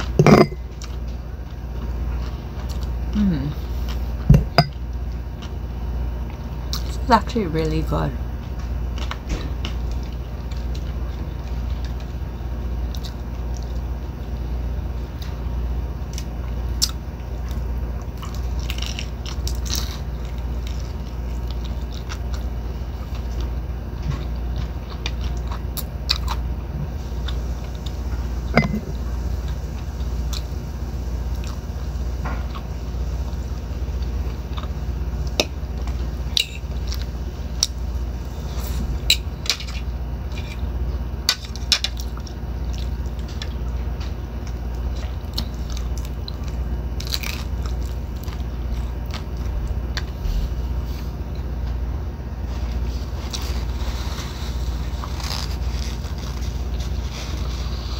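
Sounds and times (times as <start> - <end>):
chewing crunchy tacos: 0.0 - 7.1, 8.2 - 57.9
low hum: 0.0 - 16.6, 17.2 - 57.9.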